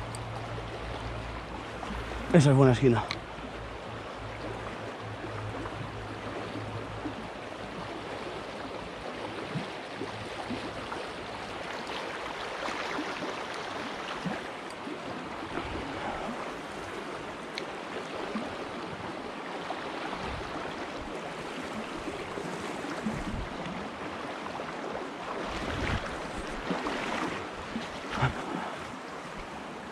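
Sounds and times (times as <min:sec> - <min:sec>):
stream running over bed: 0:00.0 - 0:29.9.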